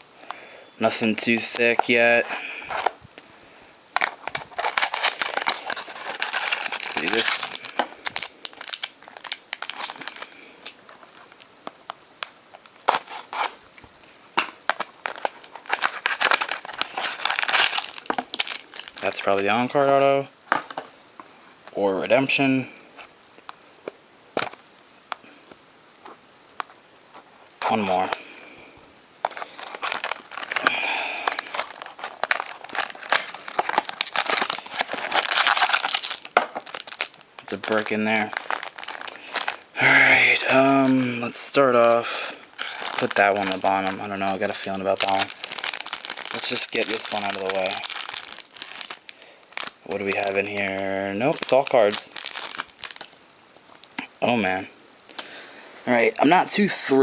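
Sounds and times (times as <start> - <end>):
card pack wrappers crinkling: 0.0 - 3.0, 3.9 - 20.9, 24.4 - 25.2, 26.0 - 28.4, 29.2 - 54.0.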